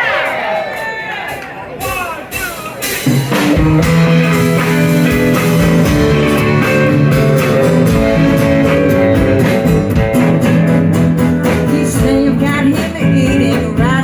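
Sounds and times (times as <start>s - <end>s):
live band playing instrumental: 0.0s - 14.0s.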